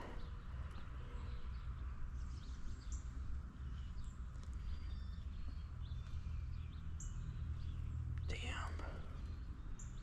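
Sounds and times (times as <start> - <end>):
faint bird chirps: 0.0 - 10.0
low outdoor rumble: 0.0 - 10.0.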